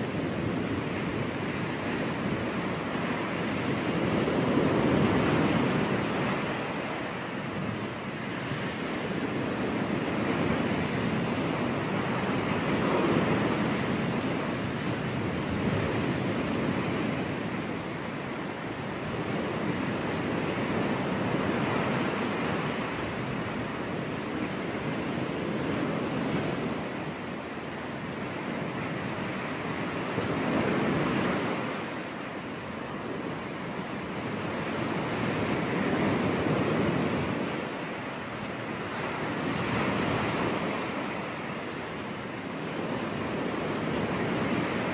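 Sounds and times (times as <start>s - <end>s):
ocean surf breaking on beach: 0.0s - 44.9s.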